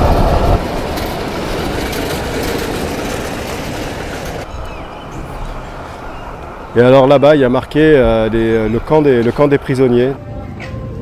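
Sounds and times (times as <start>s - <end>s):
rail cart wheels rolling: 0.0s - 11.0s.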